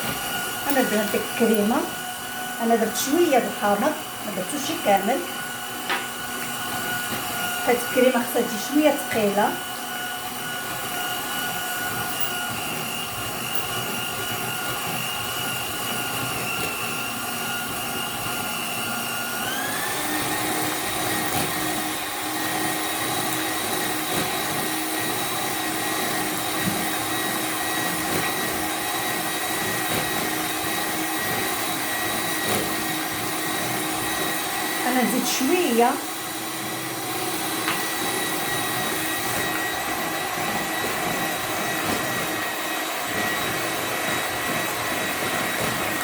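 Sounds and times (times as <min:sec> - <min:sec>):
electric mixer motor running: 0:00.0 - 0:46.0.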